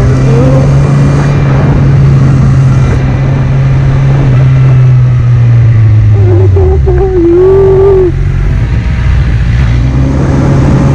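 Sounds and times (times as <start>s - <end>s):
motorcycle engine droning: 0.0s - 10.9s
road and wind noise: 0.0s - 10.9s.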